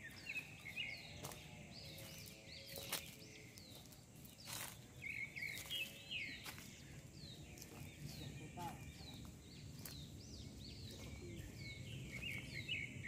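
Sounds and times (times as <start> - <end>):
footsteps in leaf litter: 0.0 - 10.2, 10.8 - 12.7
birds chirping: 0.0 - 13.0.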